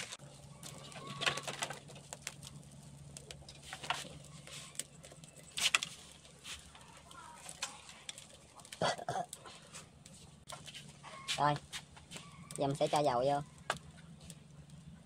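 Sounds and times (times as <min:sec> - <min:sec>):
sticks snapping in fire: 0:00.0 - 0:13.0.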